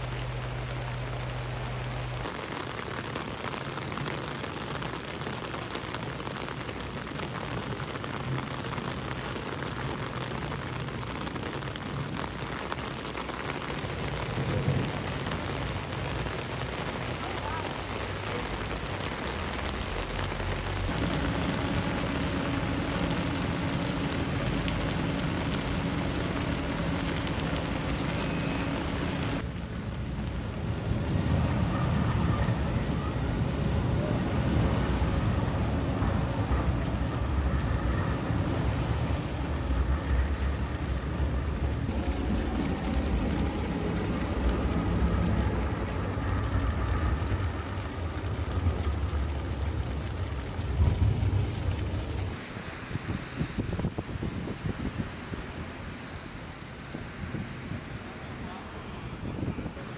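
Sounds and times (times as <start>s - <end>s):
floodwater rushing across pavement: 0.0s - 59.9s
torrential rain pouring: 0.0s - 59.9s.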